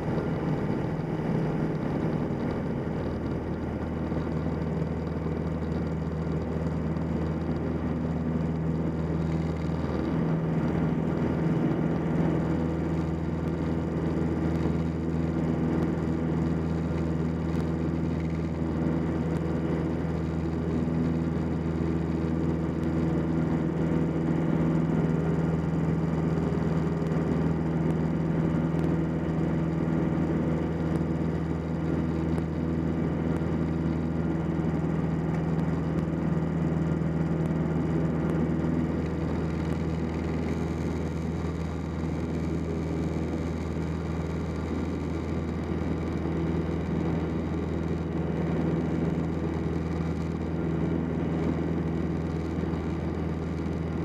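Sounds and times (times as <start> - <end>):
airplane engine drone in cockpit: 0.0 - 54.0.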